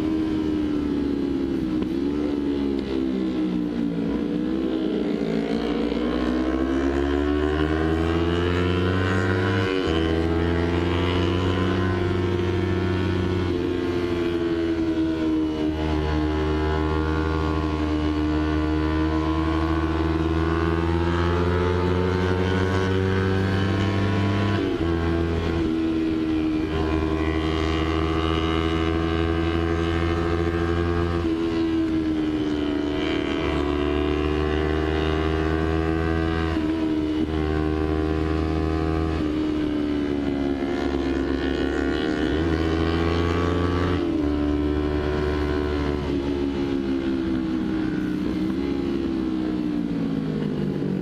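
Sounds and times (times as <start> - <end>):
motorcycle engine cruising: 0.0 - 51.0.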